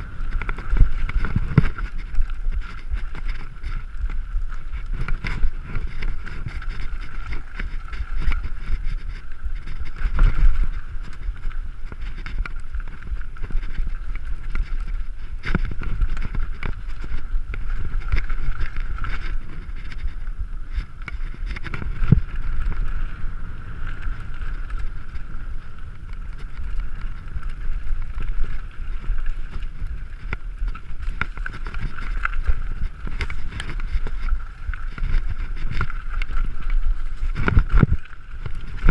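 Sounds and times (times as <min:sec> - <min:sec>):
bike tyre and frame rattle: 0:00.0 - 0:38.9
wind buffeting microphone: 0:00.0 - 0:38.9.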